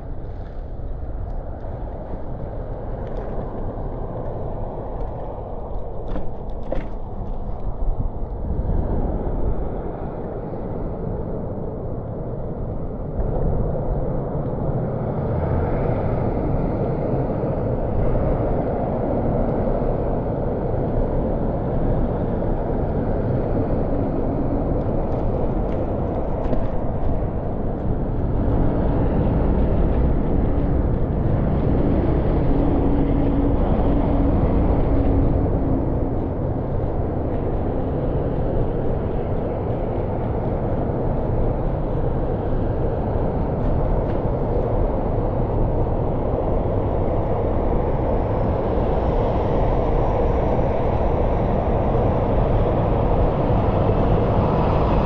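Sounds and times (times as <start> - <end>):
city street noise: 0.0 - 55.0.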